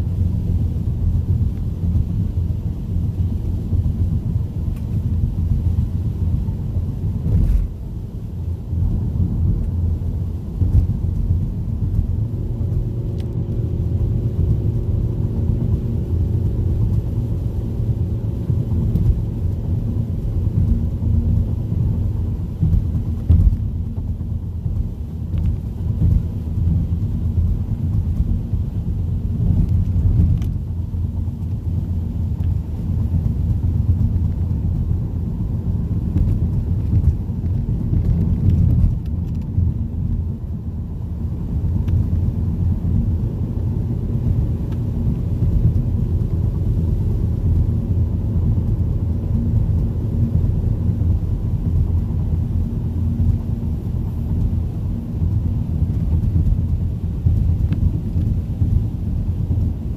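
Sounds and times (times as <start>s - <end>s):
tyre and engine rumble: 0.0s - 59.9s
rain ticking on windshield: 8.8s - 59.9s.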